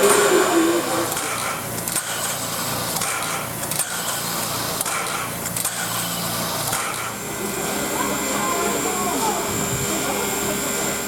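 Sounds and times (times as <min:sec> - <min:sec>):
steam locomotive rushing hum: 0:00.0 - 0:11.0.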